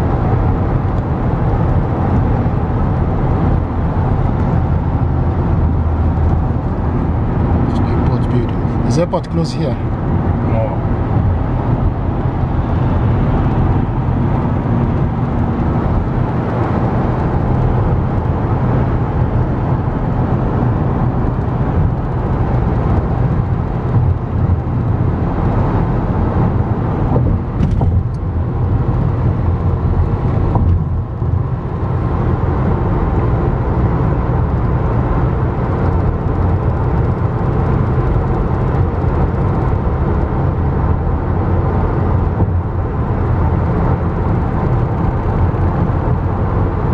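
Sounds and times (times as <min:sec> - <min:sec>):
car road and engine noise: 0:00.0 - 0:46.9.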